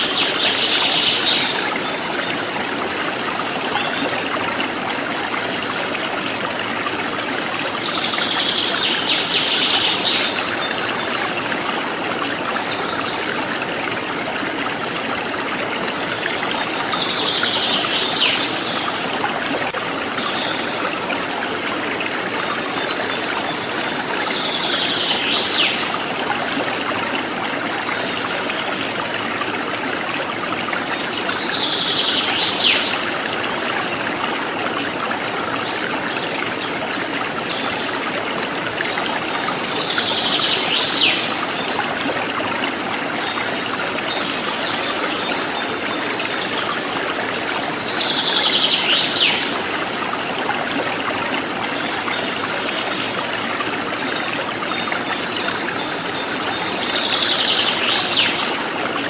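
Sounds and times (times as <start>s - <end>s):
stream trickling and gurgling: 0.0s - 59.0s.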